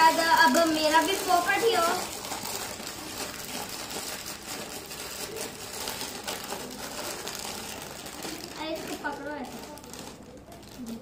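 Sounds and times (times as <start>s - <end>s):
plastic packet rustling: 0.0s - 11.0s
scissors cutting plastic: 0.0s - 11.0s.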